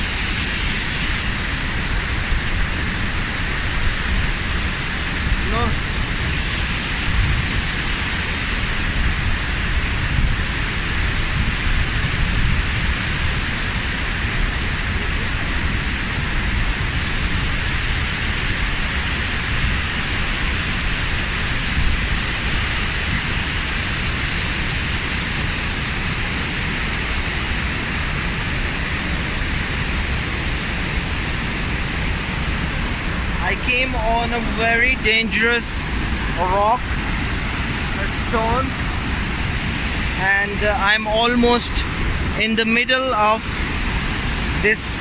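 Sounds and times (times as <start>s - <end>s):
water rushing over rocks: 0.0s - 45.0s.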